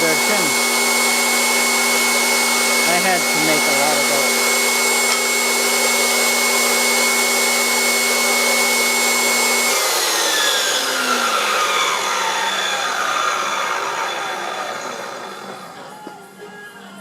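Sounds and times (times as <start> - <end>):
table saw whining and winding down: 0.0 - 16.1.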